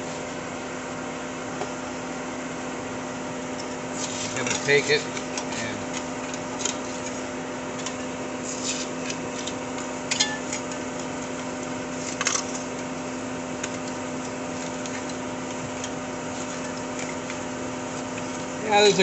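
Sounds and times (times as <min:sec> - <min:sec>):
steady motor hum: 0:00.0 - 0:19.0.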